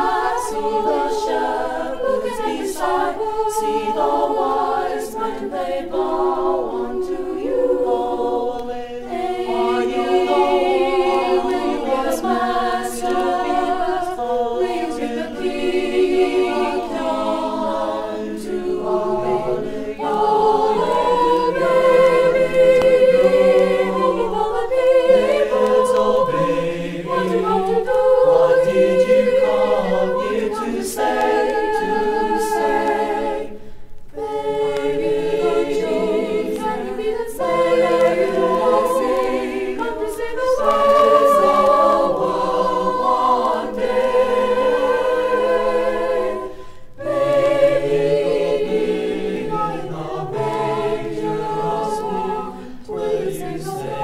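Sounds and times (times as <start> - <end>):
choir singing unaccompanied: 0.0 - 54.0.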